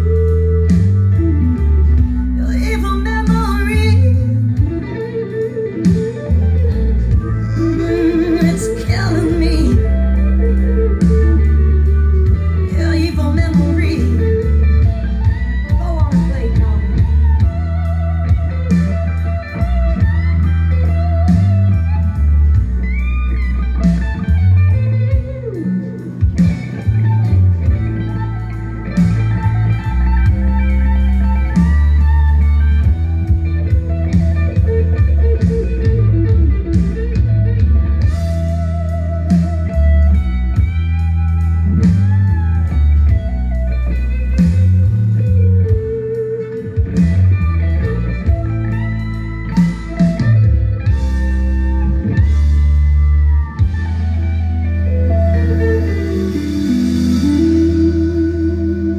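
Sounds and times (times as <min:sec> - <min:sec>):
electric guitar: 0:00.0 - 0:58.9
heavy bass line: 0:00.0 - 0:58.9.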